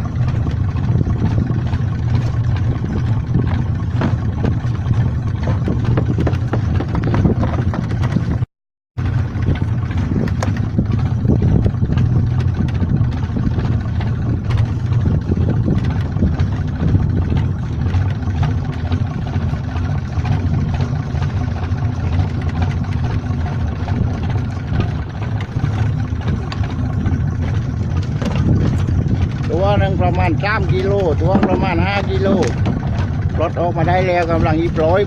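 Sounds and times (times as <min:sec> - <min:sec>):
boat engine idling: 0:00.0 - 0:35.0.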